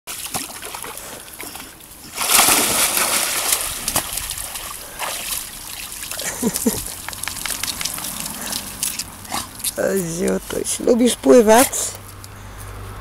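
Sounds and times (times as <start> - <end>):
dog splashing through water: 0.1 - 10.8.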